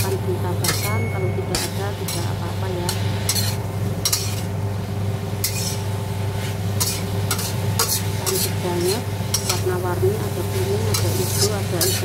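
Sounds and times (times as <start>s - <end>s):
light sizzle: 0.0s - 12.0s
steady low hum: 0.0s - 12.0s
spatula scraping a wok: 0.6s - 4.5s, 5.4s - 9.7s, 10.5s - 12.0s.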